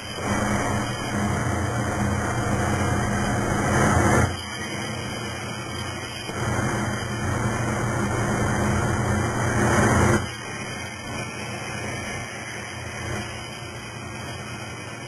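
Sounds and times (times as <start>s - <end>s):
plasma cutter hissing: 0.0s - 15.0s.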